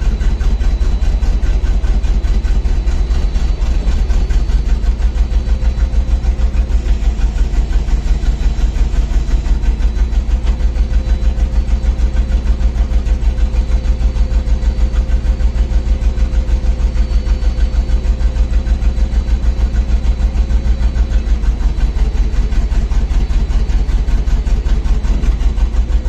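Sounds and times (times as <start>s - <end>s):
crane engine idling: 0.0s - 26.0s
faint whine: 0.0s - 26.0s.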